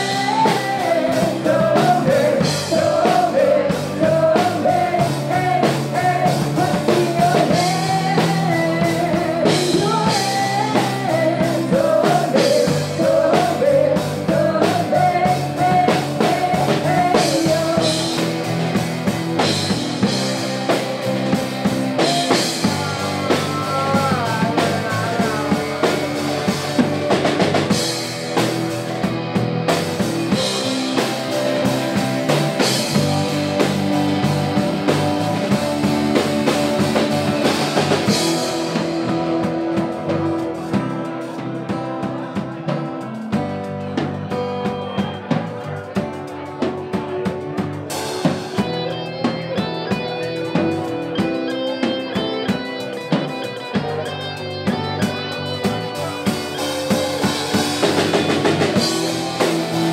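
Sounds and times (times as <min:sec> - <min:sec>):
drum kit beat: 0:00.0 - 0:59.9
live band playing pop-rock: 0:00.0 - 0:59.9.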